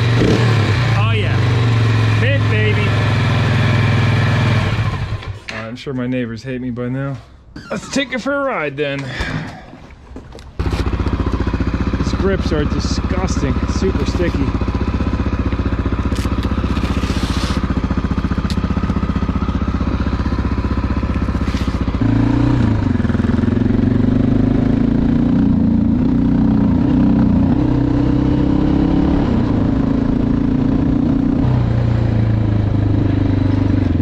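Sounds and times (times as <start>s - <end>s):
motorcycle engine: 0.0s - 5.7s, 9.2s - 34.0s.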